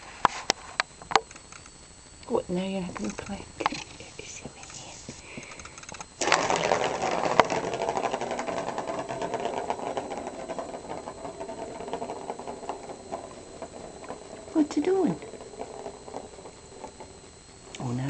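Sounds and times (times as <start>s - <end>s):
ball whirring around plastic track: 2.5s - 18.0s.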